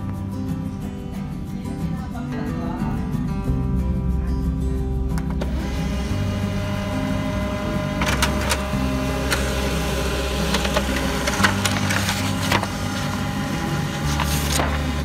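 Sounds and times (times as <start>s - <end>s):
background music with deep bass: 0.0s - 15.0s.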